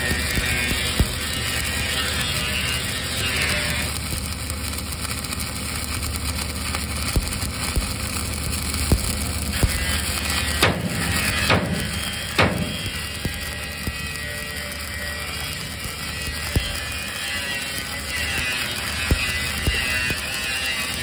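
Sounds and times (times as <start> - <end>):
sharp welding pops: 0.0 - 21.0
welding arc crackling: 0.0 - 21.0.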